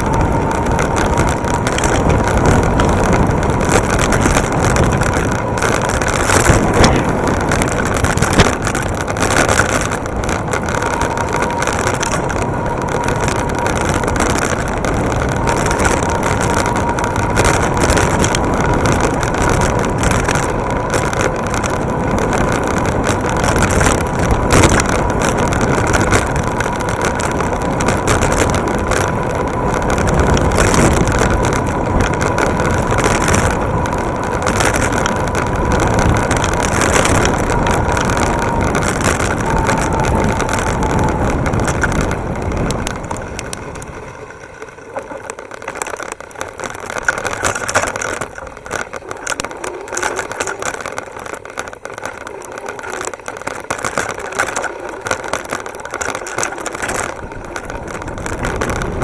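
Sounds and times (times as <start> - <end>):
bike rattles and clicks: 0.0 - 59.0
tyre and road rumble: 0.0 - 59.0
wind buffeting microphone: 0.0 - 59.0.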